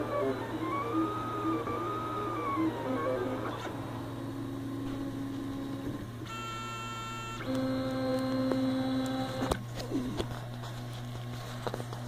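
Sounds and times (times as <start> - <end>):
stepper motors whining: 0.0 - 10.3
steady low hum: 0.0 - 12.0.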